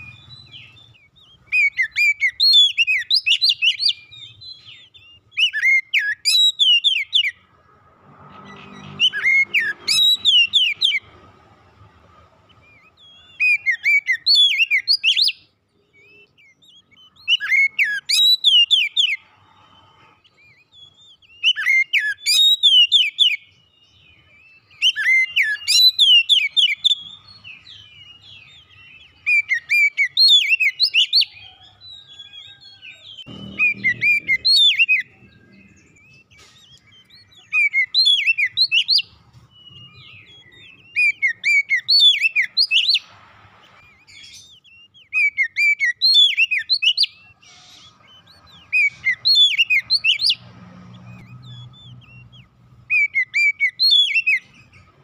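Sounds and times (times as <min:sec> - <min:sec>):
bird singing whistled phrases: 0:00.0 - 0:07.4, 0:08.6 - 0:11.0, 0:12.6 - 0:19.2, 0:20.2 - 0:43.2, 0:43.8 - 0:50.4, 0:51.0 - 0:55.0.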